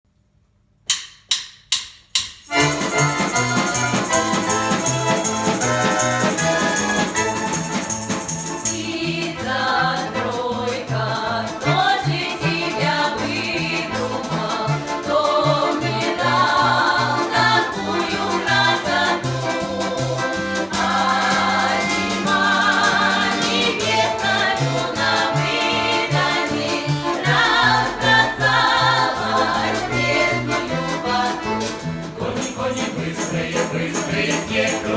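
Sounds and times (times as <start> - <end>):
low rhythmic accompaniment: 0.9 - 34.9
jingling percussion: 1.7 - 34.9
group of voices singing: 4.0 - 34.9.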